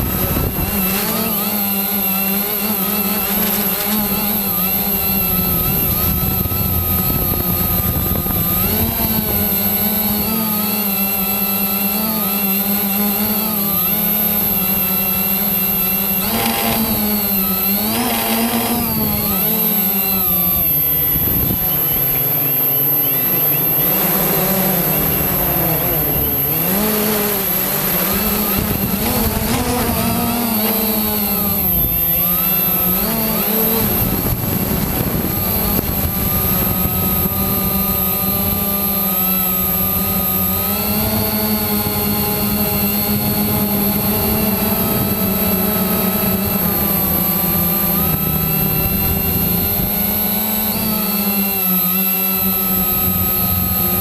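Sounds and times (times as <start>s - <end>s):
quadcopter propellers buzzing: 0.0s - 54.0s.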